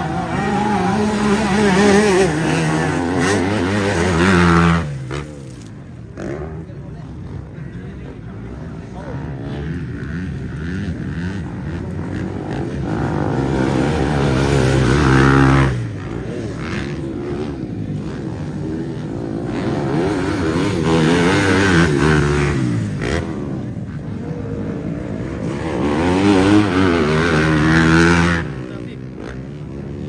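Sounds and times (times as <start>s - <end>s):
motocross bike engine revving: 0.0s - 7.7s, 8.8s - 30.0s.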